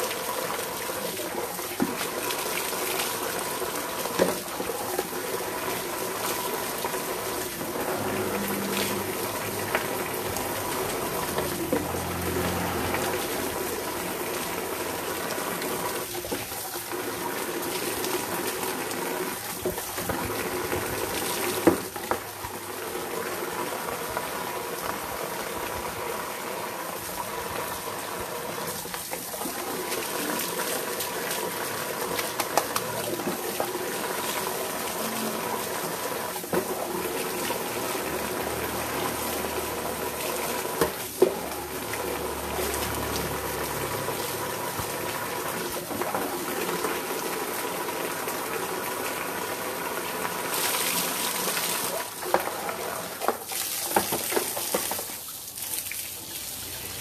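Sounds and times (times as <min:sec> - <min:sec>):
water pouring and splashing: 0:00.0 - 0:57.0.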